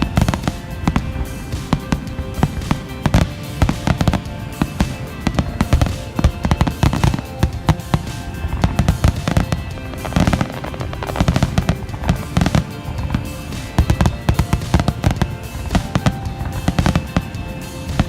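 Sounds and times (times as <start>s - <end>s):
background music: 0.0s - 18.0s
fireworks bangs and crackles: 0.0s - 18.0s.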